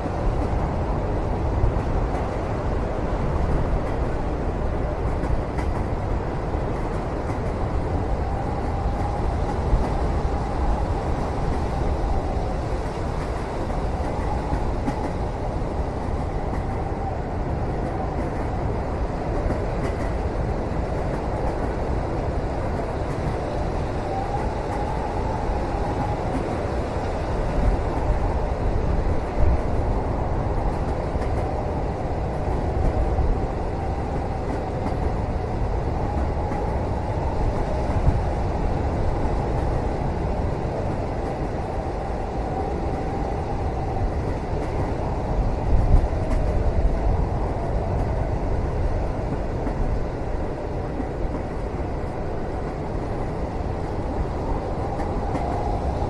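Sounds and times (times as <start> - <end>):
train carriage rumbling on rails: 0.0 - 56.0.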